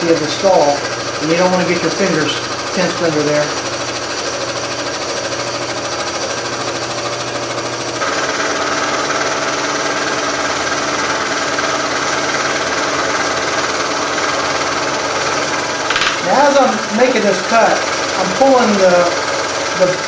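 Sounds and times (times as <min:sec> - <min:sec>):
scroll saw cutting wood: 0:00.0 - 0:20.0.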